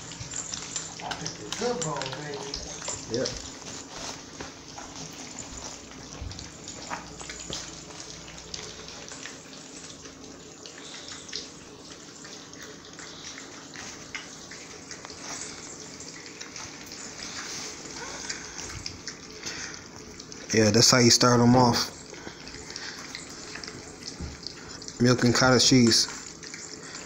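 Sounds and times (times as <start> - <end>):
puppies lapping and slurping: 0.0 - 27.0.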